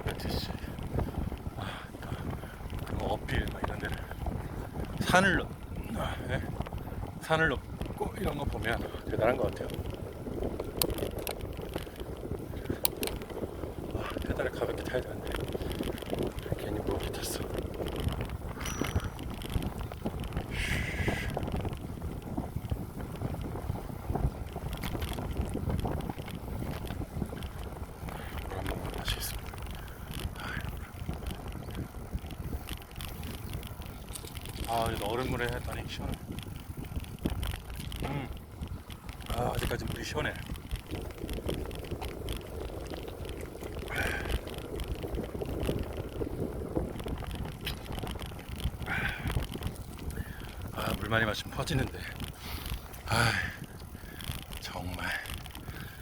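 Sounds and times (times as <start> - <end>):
wind noise on microphone: 0.0 - 56.0
bicycle knocks and rattles: 2.2 - 20.6, 21.3 - 56.0.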